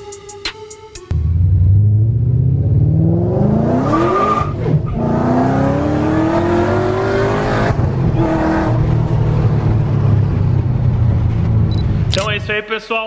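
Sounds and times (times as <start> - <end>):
car engine accelerating: 1.1 - 12.2.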